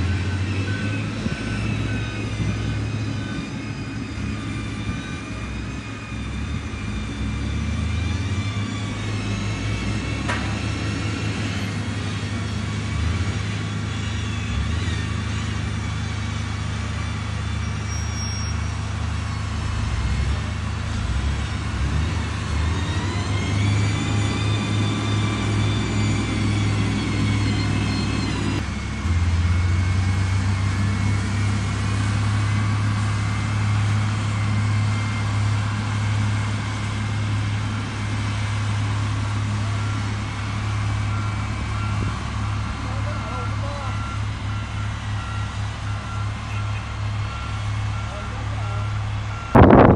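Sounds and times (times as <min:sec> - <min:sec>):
diesel engine droning: 0:00.0 - 0:49.9
engine whine: 0:00.0 - 0:49.9.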